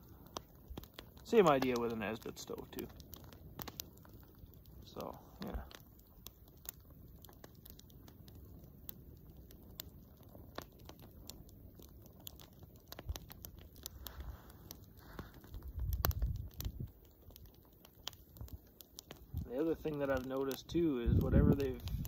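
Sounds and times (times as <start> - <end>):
fuel cube crackling: 0.0 - 22.0.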